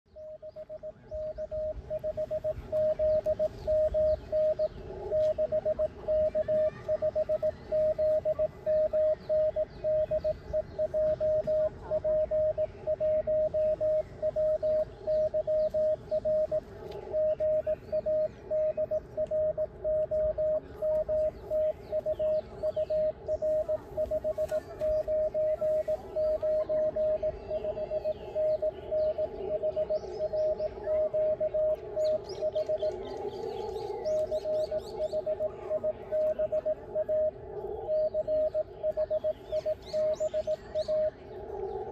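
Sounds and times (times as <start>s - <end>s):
morse code tone: 0.1s - 33.0s, 34.2s - 41.1s.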